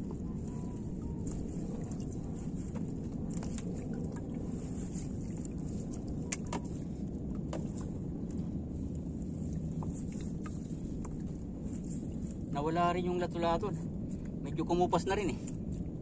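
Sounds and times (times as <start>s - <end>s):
boat engine low rumble: 0.0s - 16.0s.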